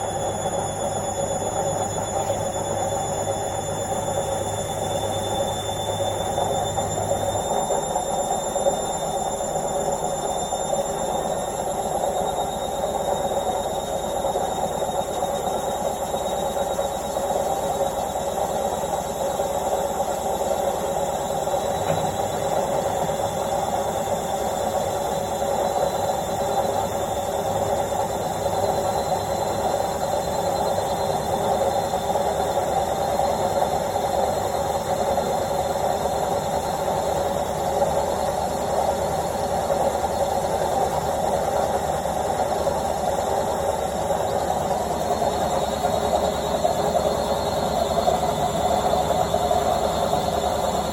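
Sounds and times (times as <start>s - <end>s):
washing machine spinning: 0.0s - 50.9s.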